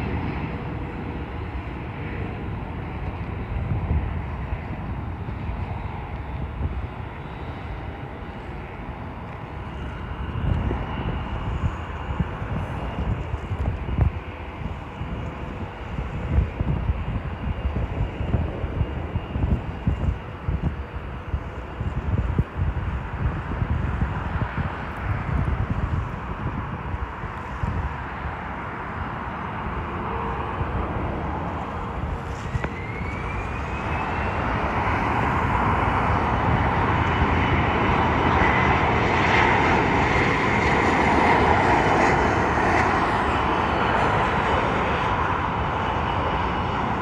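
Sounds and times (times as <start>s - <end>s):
faint high engine whine: 0.0s - 47.0s
jet engines rumbling: 0.0s - 47.0s.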